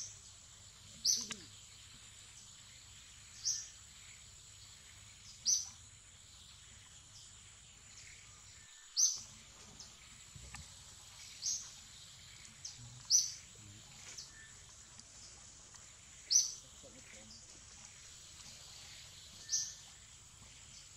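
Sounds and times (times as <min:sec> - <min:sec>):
steady high-pitched whine: 0:00.0 - 0:20.9.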